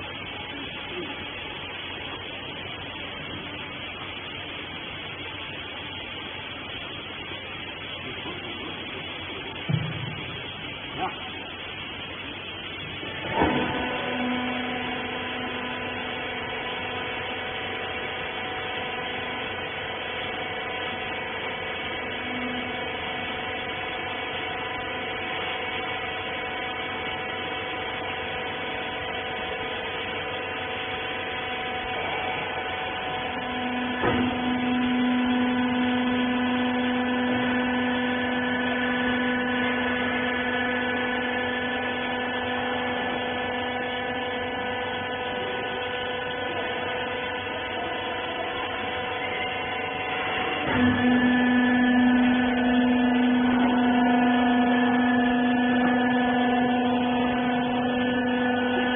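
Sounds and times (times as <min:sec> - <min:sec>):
machine motor humming: 0:00.0 - 0:58.9.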